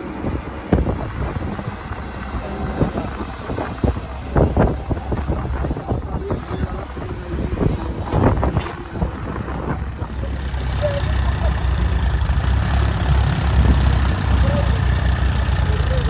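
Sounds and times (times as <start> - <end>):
diesel machinery rumbling: 0.0 - 16.0
wind buffeting microphone: 0.0 - 16.0.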